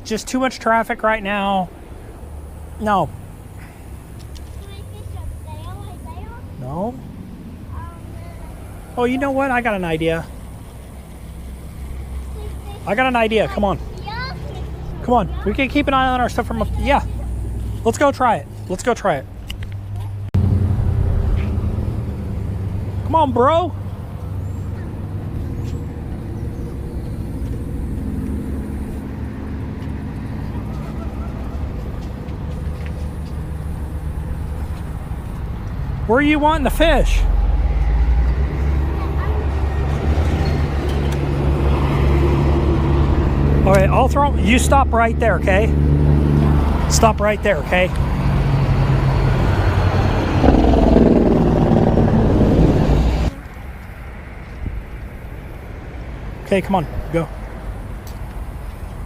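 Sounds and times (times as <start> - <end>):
road traffic rumble: 0.0 - 59.0
faint engine hum: 1.0 - 59.0.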